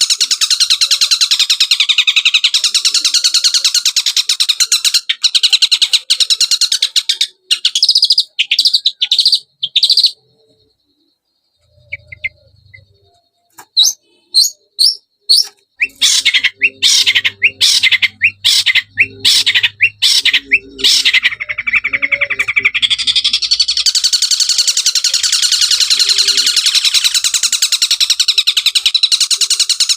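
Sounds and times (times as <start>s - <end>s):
shrike chattering song: 0.0s - 29.9s.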